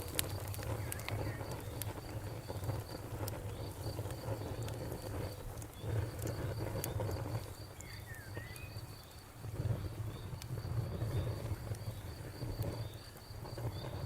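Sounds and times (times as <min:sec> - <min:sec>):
campfire crackling and popping: 0:00.0 - 0:14.0
cricket chirping: 0:00.0 - 0:14.0.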